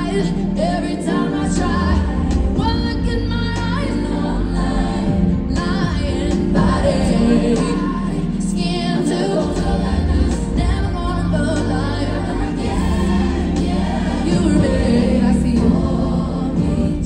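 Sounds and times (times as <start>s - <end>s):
backing track with bass line: 0.0s - 17.0s
woman singing into a microphone: 0.0s - 17.0s.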